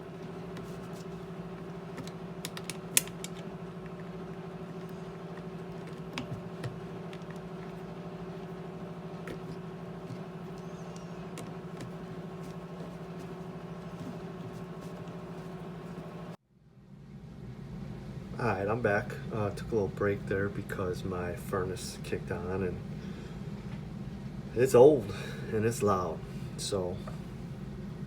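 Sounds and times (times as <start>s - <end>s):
furnace humming: 0.0s - 28.0s.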